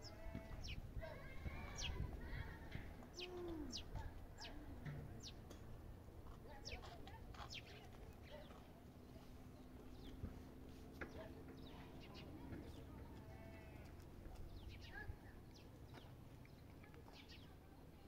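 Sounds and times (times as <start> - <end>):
small birds chirping: 0.0 - 5.8, 6.4 - 18.0.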